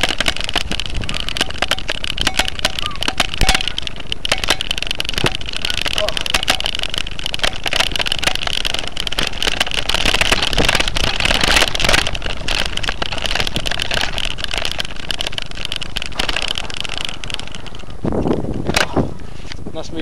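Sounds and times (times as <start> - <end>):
wind rushing over microphone: 0.0 - 5.8, 6.4 - 20.0
bike rattling over bumpy grass: 0.0 - 20.0.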